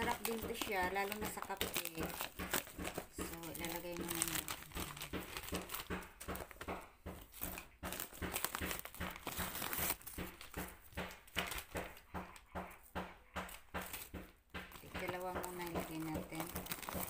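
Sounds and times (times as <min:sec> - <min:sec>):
plastic bag crinkling: 0:00.0 - 0:12.1, 0:13.5 - 0:17.0.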